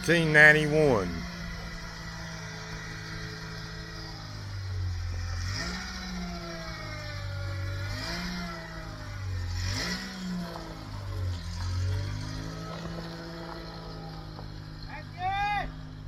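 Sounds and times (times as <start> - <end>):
engine idling and revving: 1.3 - 16.0.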